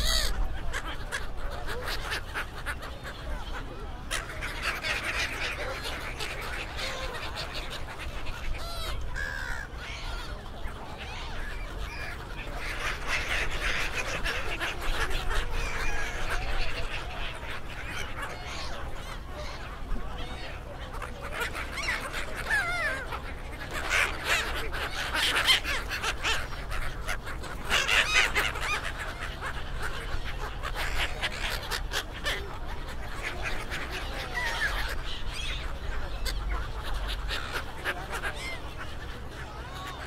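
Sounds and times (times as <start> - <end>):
crowd voices: 0.0 - 40.0
gulls calling: 0.0 - 40.0.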